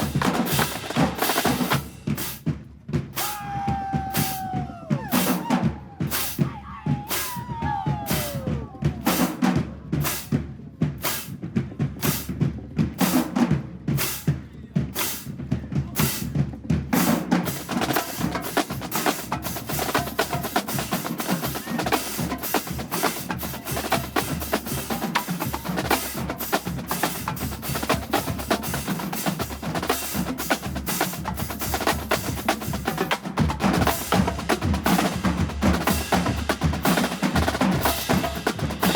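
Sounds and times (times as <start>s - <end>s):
drumline snare and bass drums: 0.0s - 38.9s.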